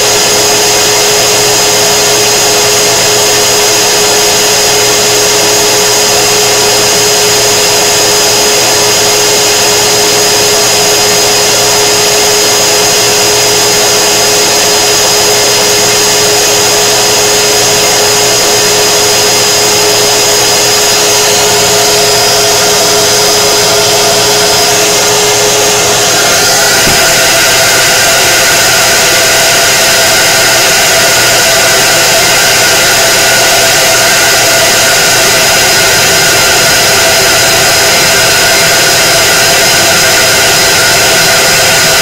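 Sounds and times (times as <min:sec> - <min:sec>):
exhaust fan whirring: 0:00.0 - 0:42.0.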